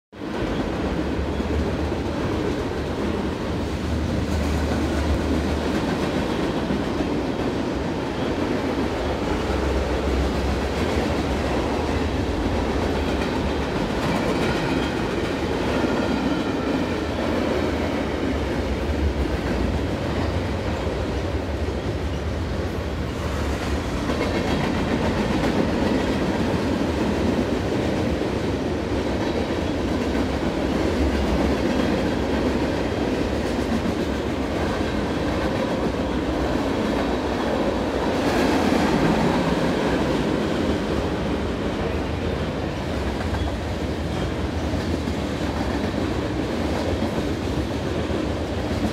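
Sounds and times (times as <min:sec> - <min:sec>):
train wheels rumbling on rails: 0:00.1 - 0:48.9.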